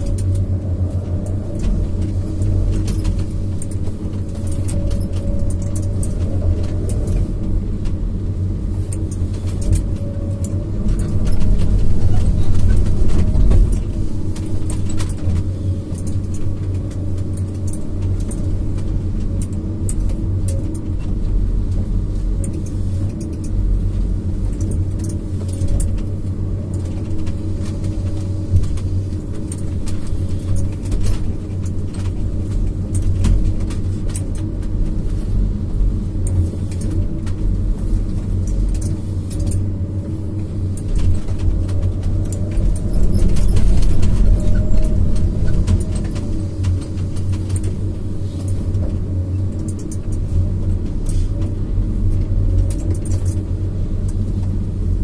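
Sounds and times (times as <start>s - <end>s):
diesel engine and hydraulics running: 0.0s - 55.0s.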